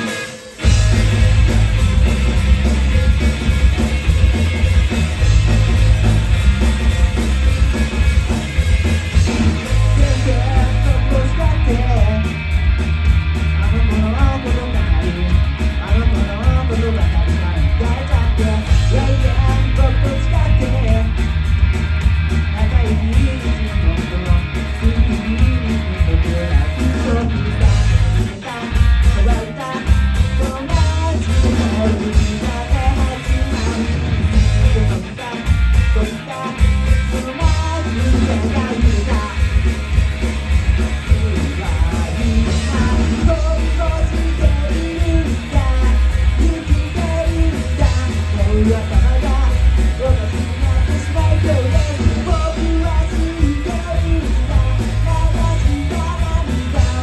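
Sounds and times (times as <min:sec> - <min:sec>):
person singing: 0:00.0 - 0:12.4, 0:13.5 - 0:21.3, 0:22.5 - 0:57.0
bass guitar: 0:00.0 - 0:57.0
distorted electric guitars: 0:00.0 - 0:57.0
drums: 0:00.0 - 0:57.0.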